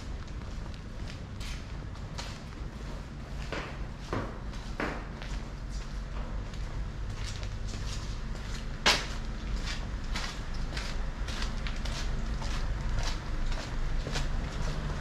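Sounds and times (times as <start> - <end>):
footsteps on pavement: 0.0 - 15.0
low city hum: 0.0 - 15.0.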